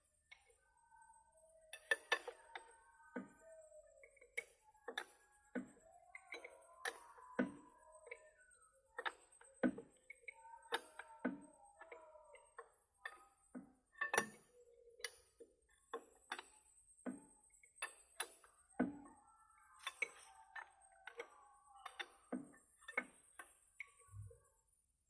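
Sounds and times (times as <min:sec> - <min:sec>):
faint ringing tones: 0:00.0 - 0:25.0.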